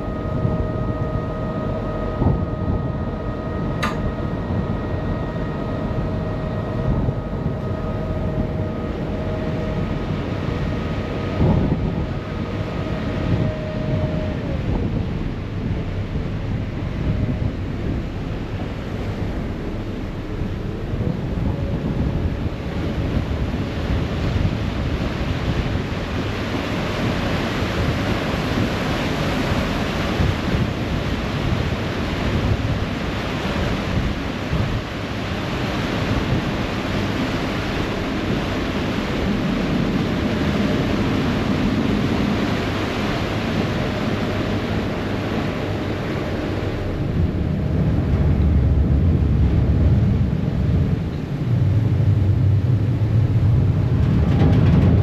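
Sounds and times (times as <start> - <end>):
boat wake rushing and churning: 0.0 - 55.0
low engine rumble: 0.0 - 55.0
wind buffeting microphone: 0.0 - 55.0.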